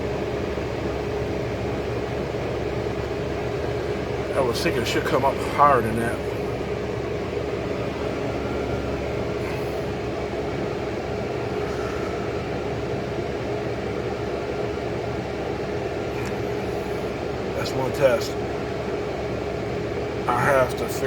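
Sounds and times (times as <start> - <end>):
air conditioner humming: 0.0 - 21.0
air conditioner whine: 0.0 - 21.0.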